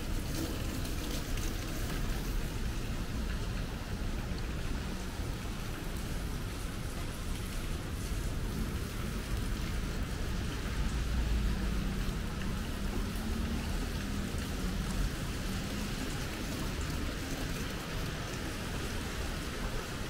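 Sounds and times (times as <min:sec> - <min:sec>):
rain falling on street: 0:00.0 - 0:20.0.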